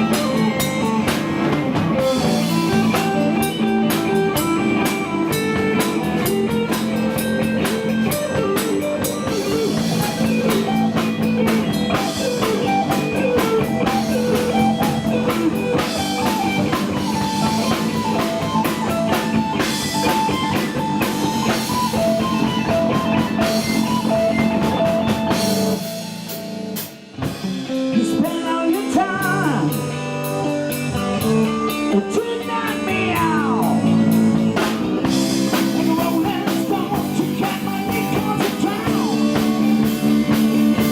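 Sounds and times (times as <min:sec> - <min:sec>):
blues-rock band playing: 0:00.0 - 0:40.9
electric guitar lead lines: 0:00.0 - 0:40.9.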